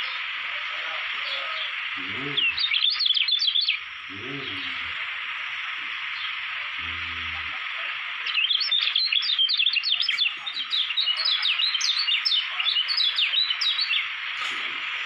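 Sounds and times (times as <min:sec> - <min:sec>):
steady hiss: 0:00.0 - 0:15.0
bird chirping: 0:00.9 - 0:15.0.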